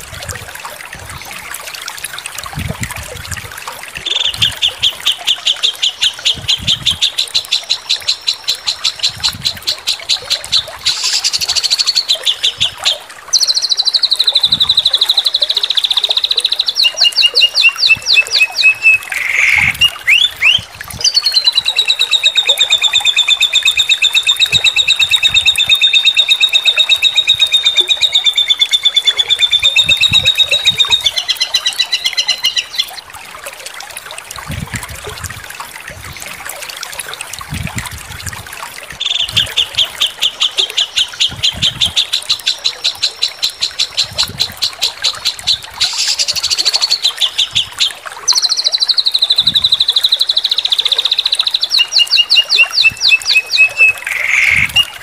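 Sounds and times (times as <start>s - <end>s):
songbird singing trills: 4.0s - 33.0s, 39.0s - 55.0s.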